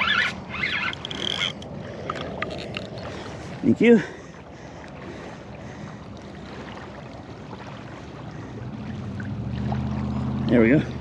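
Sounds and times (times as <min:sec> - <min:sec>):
low engine hum: 0:00.0 - 0:11.0
wind: 0:00.0 - 0:11.0.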